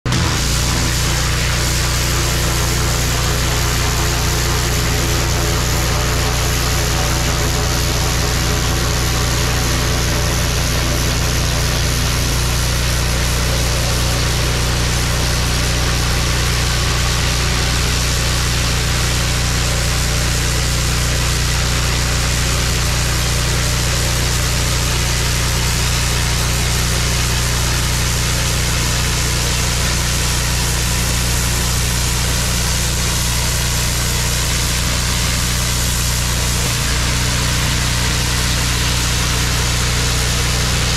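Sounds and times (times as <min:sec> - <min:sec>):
pressure washer engine running: 0:00.0 - 0:40.9
high-pressure spray hissing on concrete: 0:00.1 - 0:40.9.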